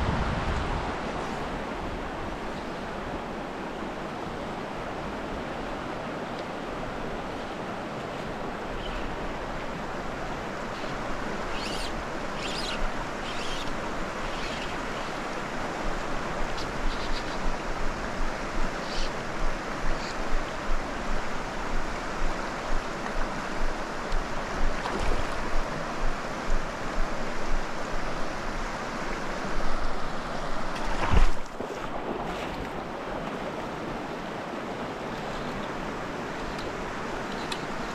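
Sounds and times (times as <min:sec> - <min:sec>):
rushing stream water: 0:00.0 - 0:37.9.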